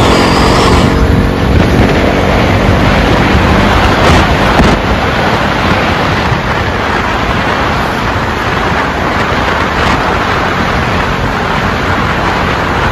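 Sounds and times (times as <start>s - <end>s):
loud rushing noise with low rumble: 0.0s - 12.9s.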